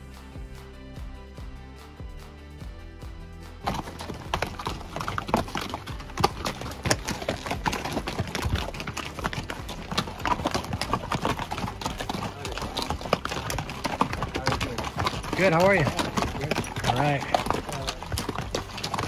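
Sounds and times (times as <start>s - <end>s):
hooves clopping on rocky trail: 2.6s - 19.0s.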